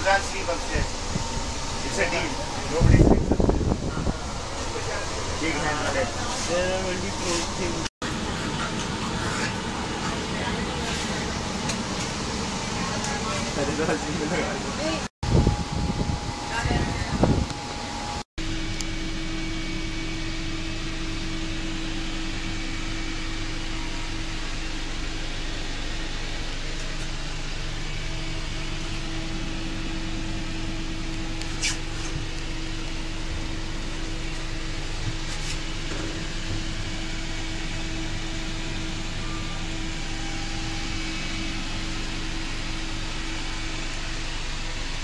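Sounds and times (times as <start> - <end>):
constant held tone: 0.0 - 45.0
train coach hum and rushing: 0.0 - 45.0.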